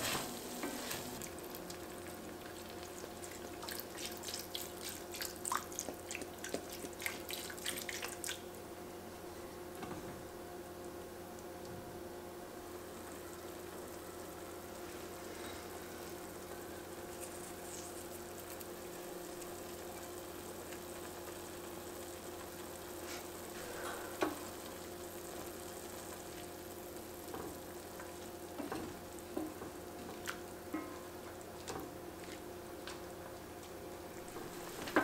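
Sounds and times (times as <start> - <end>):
meat sizzling in stock: 0.0 - 9.8, 10.6 - 35.0
faint steady hum: 0.0 - 35.0.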